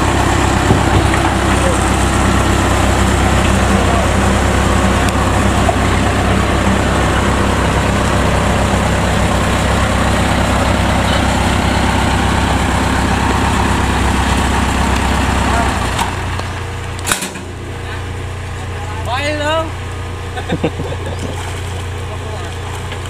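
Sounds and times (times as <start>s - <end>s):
combine harvester diesel engine: 0.0s - 23.0s.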